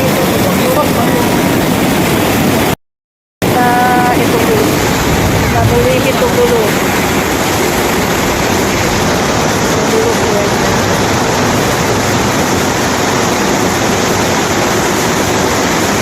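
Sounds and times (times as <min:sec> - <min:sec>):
heavy rain pouring: 0:00.0 - 0:02.8, 0:03.4 - 0:16.0.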